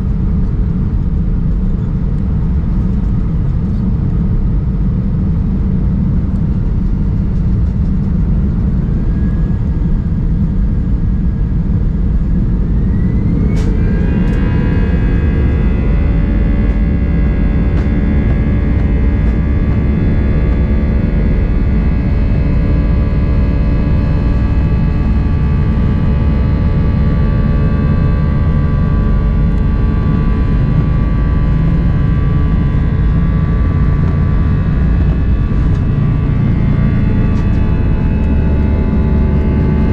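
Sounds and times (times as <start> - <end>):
jet engine whine: 0.0 - 39.9
jet engines rumbling: 0.0 - 39.9.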